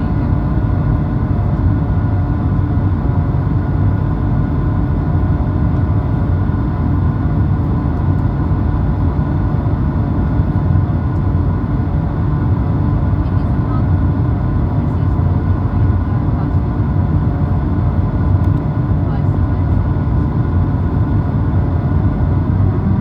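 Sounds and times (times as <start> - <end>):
aircraft engines rumbling: 0.0 - 23.0.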